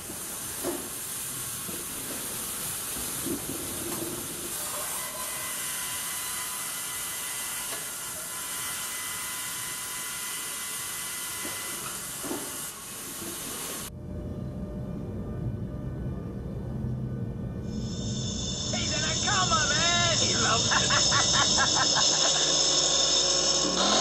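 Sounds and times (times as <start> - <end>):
band saw whine and hiss: 0.0 - 13.9, 17.6 - 24.0.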